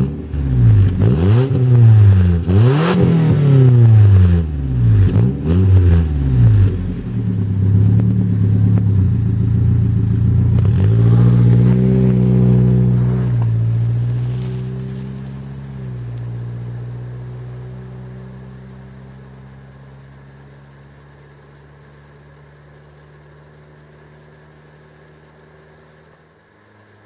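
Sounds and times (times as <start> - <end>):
car engine pulling away: 0.0 - 27.0.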